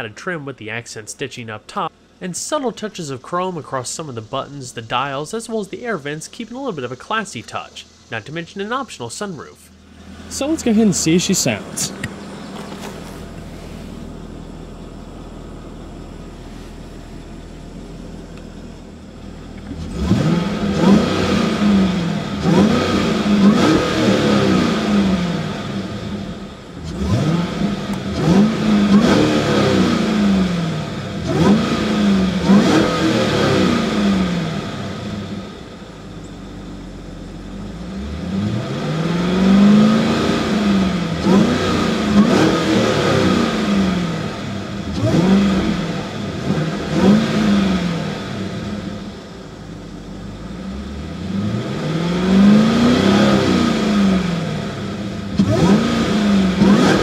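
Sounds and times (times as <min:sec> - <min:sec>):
car engine revving: 0:01.4 - 0:57.0.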